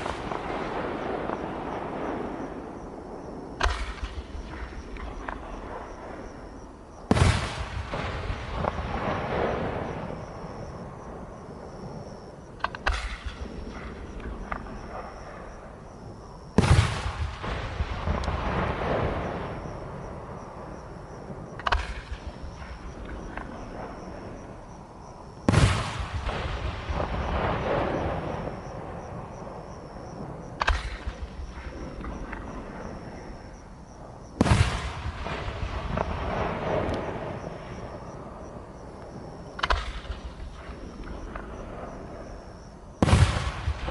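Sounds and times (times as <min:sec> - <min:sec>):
firework burst overhead: 0:00.0 - 0:06.5, 0:07.1 - 0:12.1, 0:16.6 - 0:24.5, 0:25.4 - 0:33.5, 0:34.4 - 0:43.9
crackling rumble and echo: 0:00.0 - 0:43.9.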